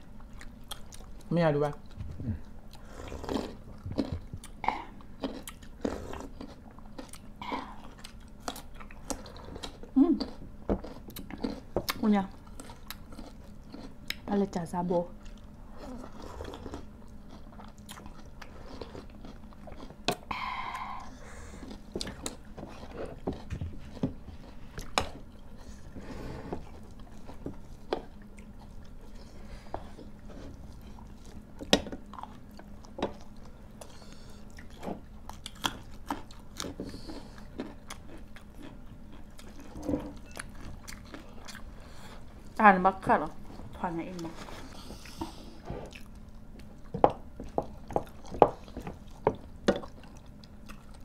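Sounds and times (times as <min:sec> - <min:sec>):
people chewing and biting: 0:00.1 - 0:01.2, 0:01.9 - 0:14.3, 0:15.2 - 0:42.6, 0:44.5 - 0:51.0.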